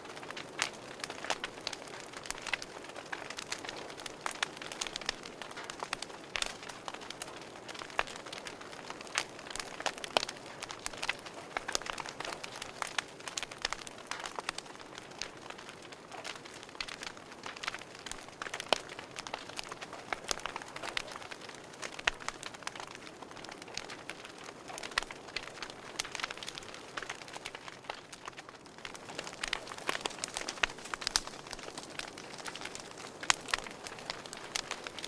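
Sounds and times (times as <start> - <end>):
fire pops and snaps: 0.0 - 35.0
wood fire crackling: 0.0 - 35.0.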